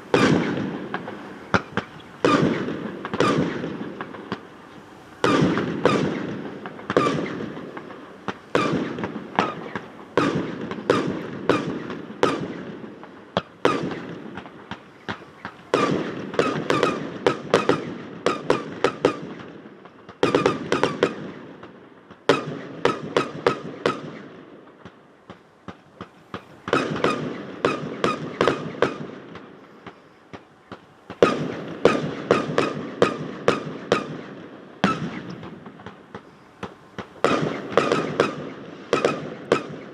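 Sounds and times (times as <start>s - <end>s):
fireworks bangs echoing: 0.0s - 39.9s.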